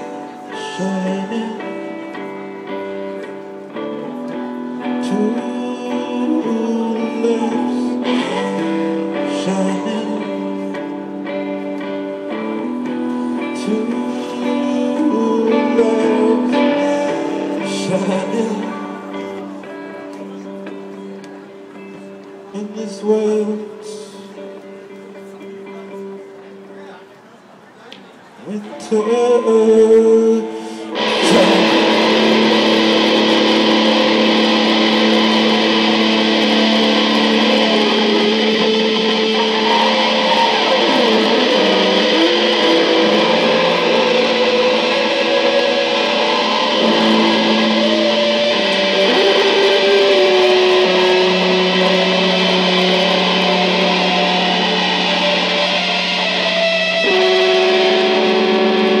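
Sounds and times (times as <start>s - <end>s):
rock band playing: 0.0s - 22.5s, 30.6s - 59.0s
electric guitar chords: 0.0s - 27.2s, 28.5s - 59.0s.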